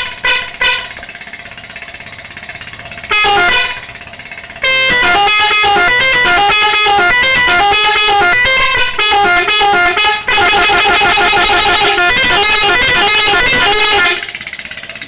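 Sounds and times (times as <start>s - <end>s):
multi-tone bus horn melody: 0.0s - 1.1s, 3.0s - 14.5s.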